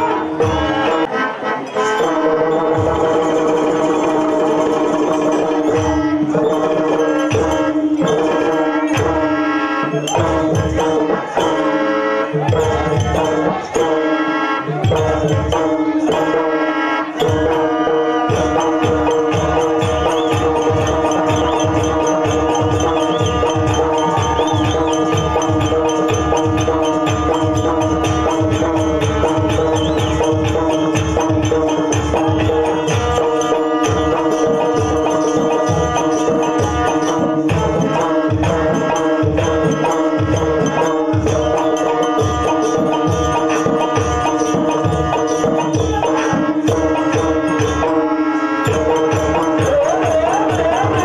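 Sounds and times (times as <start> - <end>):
drum beat: 0.0 - 1.2, 2.0 - 51.0
steady held notes: 0.0 - 51.0.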